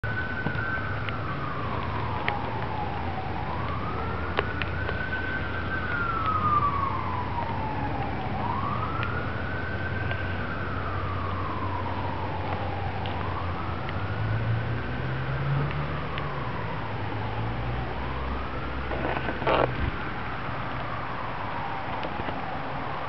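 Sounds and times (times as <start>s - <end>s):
siren wailing: 0.0s - 23.0s.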